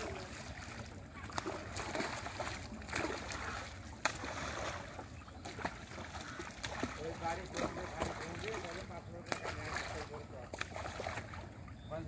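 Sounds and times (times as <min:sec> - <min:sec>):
fish splashing at surface: 0:00.0 - 0:11.5.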